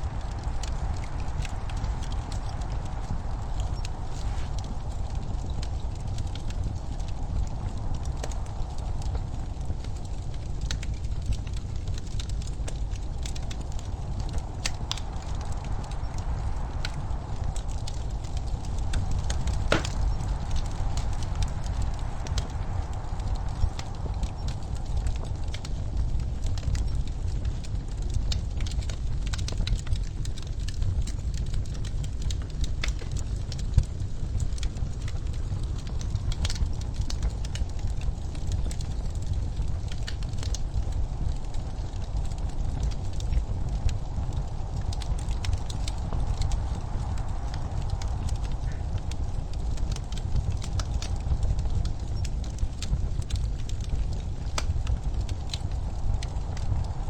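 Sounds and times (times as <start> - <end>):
fire pops and snaps: 0.0 - 57.0
low fire rumble: 0.0 - 57.0
wood fire crackling: 0.0 - 57.0.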